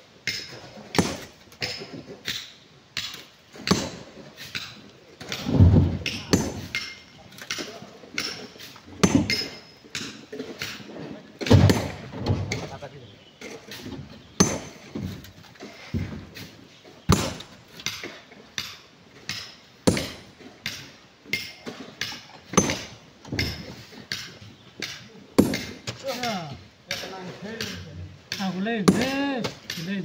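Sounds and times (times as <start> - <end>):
hammer striking rock: 0.3 - 10.8, 11.4 - 12.7, 14.4 - 15.1, 17.1 - 29.9.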